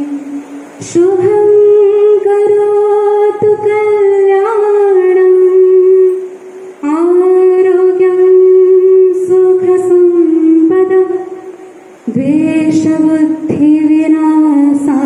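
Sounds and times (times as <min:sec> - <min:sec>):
person singing slow melody: 0:00.0 - 0:15.0.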